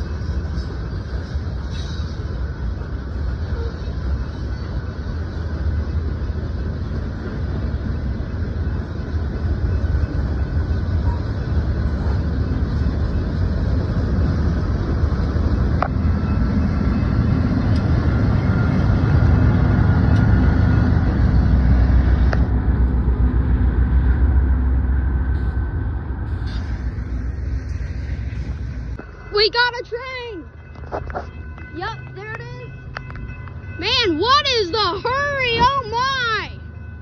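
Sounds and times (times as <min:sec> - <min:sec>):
diesel locomotive engine: 0:00.0 - 0:37.0
train wheels rumbling on rails: 0:00.0 - 0:37.0.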